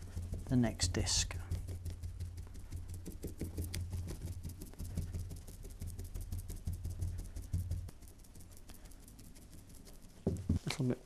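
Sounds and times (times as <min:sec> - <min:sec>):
brush knocking: 0:00.0 - 0:11.0
paintbrush dabbing: 0:00.0 - 0:11.0.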